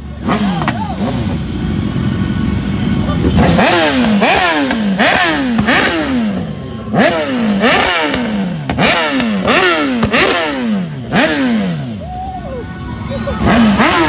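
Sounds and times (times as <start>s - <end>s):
motorcycle engine revving: 0.0s - 12.0s, 12.9s - 14.0s.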